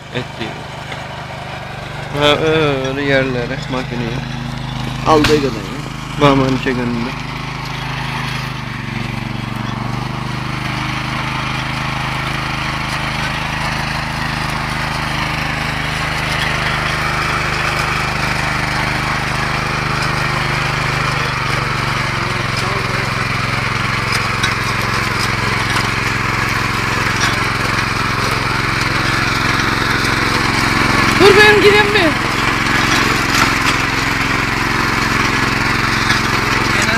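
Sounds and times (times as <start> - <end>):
tiller engine running: 0.0 - 36.9
tines churning soil: 0.0 - 36.9.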